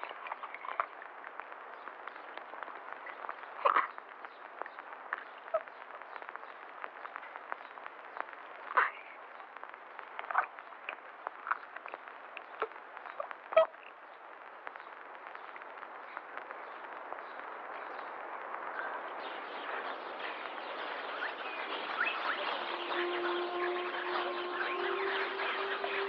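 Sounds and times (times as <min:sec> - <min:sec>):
film soundtrack hiss: 0:00.0 - 0:26.0.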